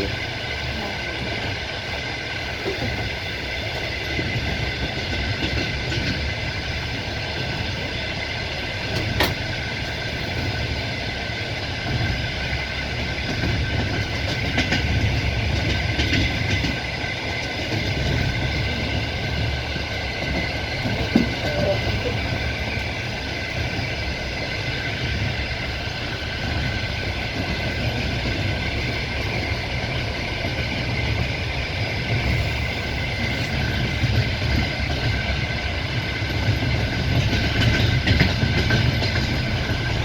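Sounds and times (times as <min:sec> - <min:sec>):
faint clickety-clack: 0:00.0 - 0:40.0
train wheels rumbling on rail: 0:00.0 - 0:40.0.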